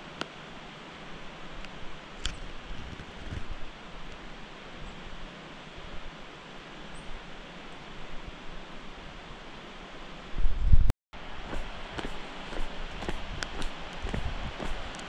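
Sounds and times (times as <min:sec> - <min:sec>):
soft outdoor hiss: 0:00.0 - 0:15.0.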